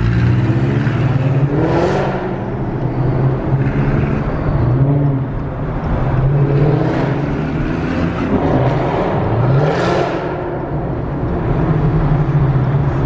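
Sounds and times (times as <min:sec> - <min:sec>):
car engine and exhaust: 0:00.0 - 0:13.0.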